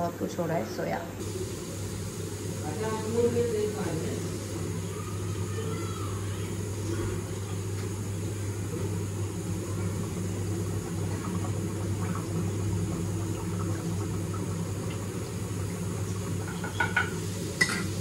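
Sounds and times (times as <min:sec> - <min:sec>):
motor humming: 0:01.2 - 0:18.0.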